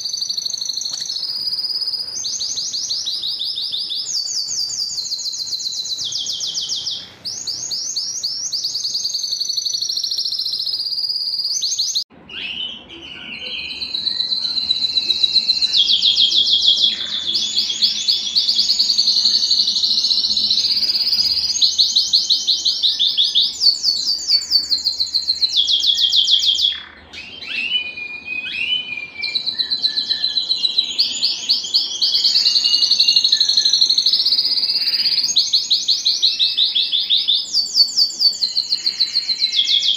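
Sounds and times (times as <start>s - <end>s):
canary song trills: 0.0s - 39.9s.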